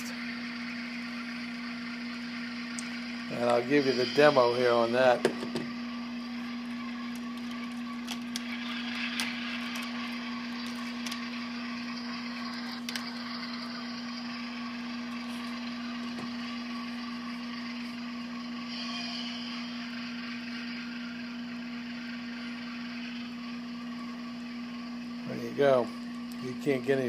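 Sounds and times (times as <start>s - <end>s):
model diesel engine drone: 0.0s - 27.0s.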